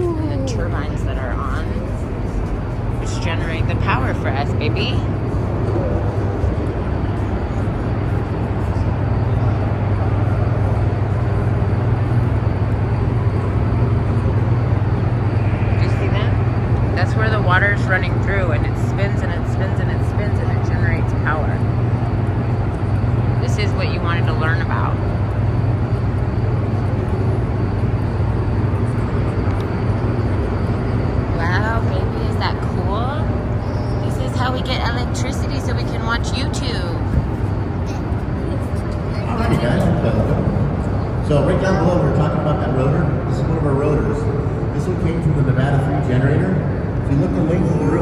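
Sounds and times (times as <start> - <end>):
generators humming: 0.0 - 48.0
rushing drone: 0.0 - 48.0.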